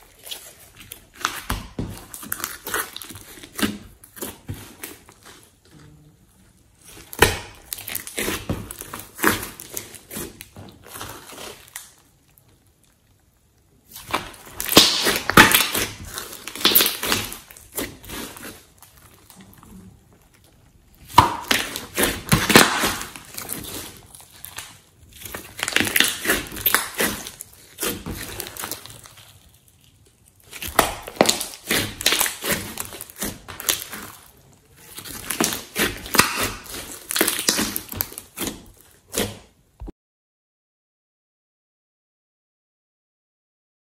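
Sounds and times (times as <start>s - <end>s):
slime squelching: 0.0s - 39.8s.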